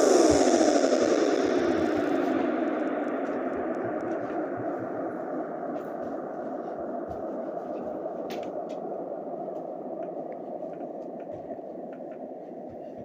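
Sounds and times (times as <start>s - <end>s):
steady rushing noise: 0.0s - 12.9s.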